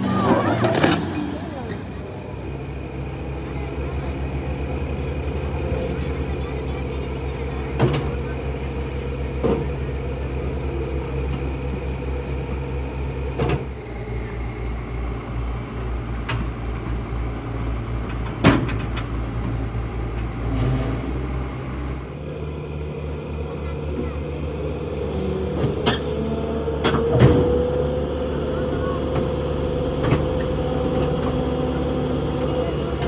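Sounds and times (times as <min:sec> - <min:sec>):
heavy truck engine running: 0:00.0 - 0:33.0.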